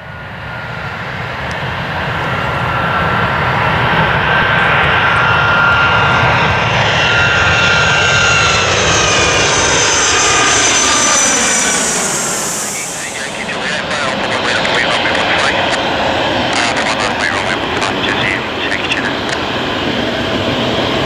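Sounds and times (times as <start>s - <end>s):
jet engines on landing approach: 0.0s - 21.0s.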